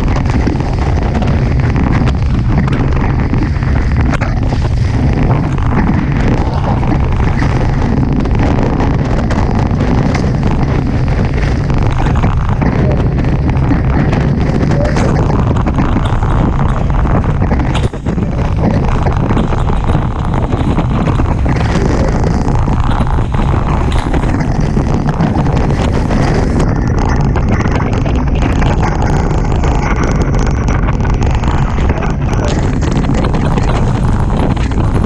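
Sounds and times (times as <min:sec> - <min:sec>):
water rushing past hulls: 0:00.0 - 0:29.0
wind buffeting microphone: 0:00.0 - 0:35.0.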